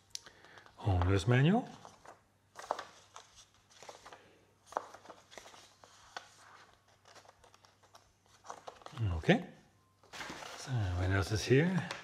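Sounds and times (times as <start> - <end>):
paper pages turning: 0.3 - 9.2, 10.0 - 12.0.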